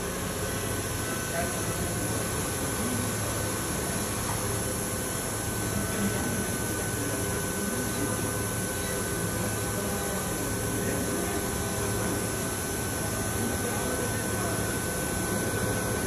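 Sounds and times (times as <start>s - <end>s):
milling machine hum and whine: 0.0s - 16.0s.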